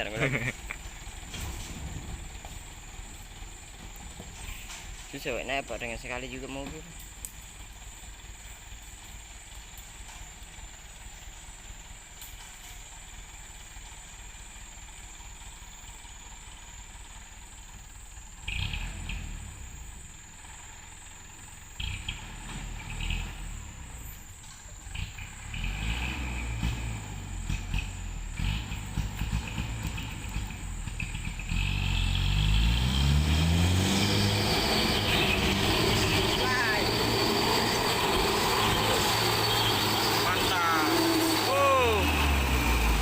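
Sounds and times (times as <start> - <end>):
truck engine climbing: 0.0 - 43.0.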